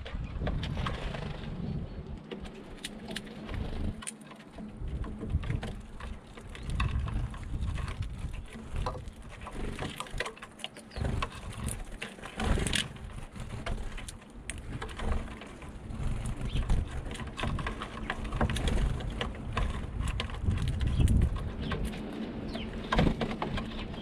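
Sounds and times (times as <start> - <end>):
birds pecking and cracking seeds: 0.0 - 24.0.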